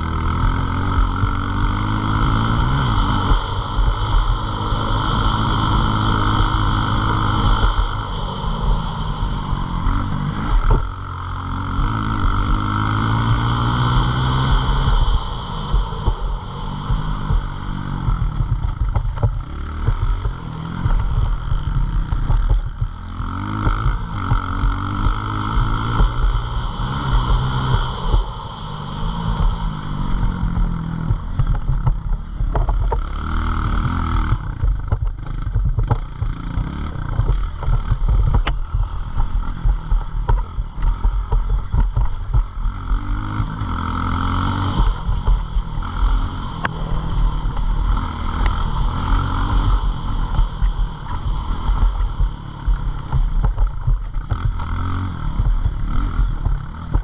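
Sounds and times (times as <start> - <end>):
pit bike engine revving: 0.0 - 57.0
steady rushing noise: 0.0 - 57.0.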